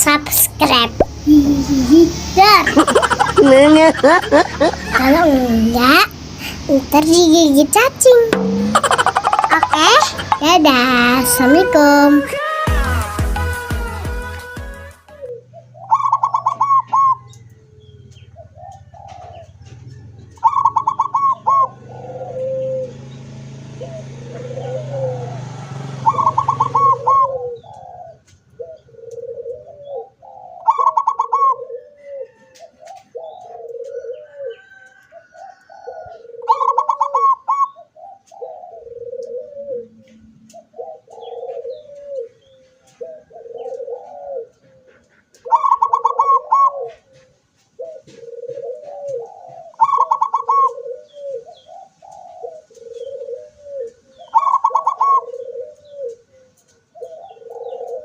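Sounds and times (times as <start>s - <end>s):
dove cooing song: 0.6s - 13.0s, 13.9s - 58.0s.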